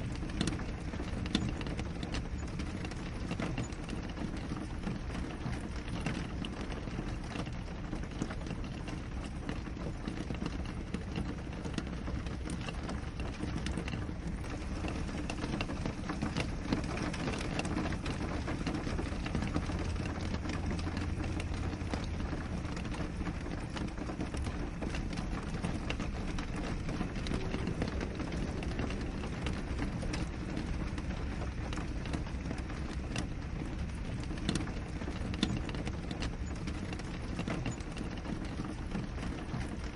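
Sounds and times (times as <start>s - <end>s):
rain on window glass: 0.0s - 39.9s.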